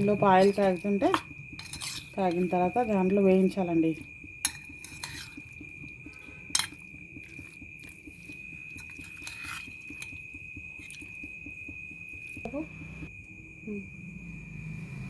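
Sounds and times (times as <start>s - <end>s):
oil crackling in a pan: 0.0s - 13.0s.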